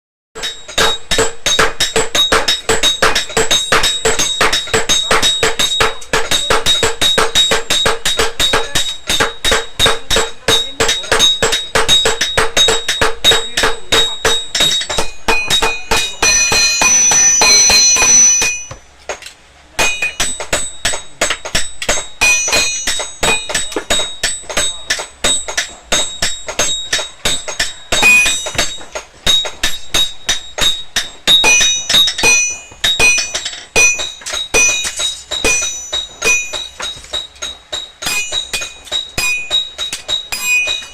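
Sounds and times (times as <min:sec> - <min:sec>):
dense metallic noise: 0:00.4 - 0:40.9
hammer striking steel on anvil: 0:00.4 - 0:40.9.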